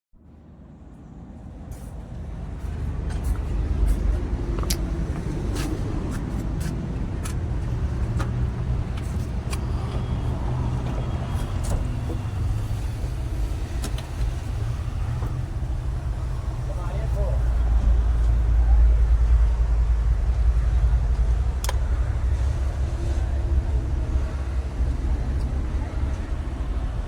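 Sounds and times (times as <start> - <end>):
engine low rumble: 0.1 - 27.0.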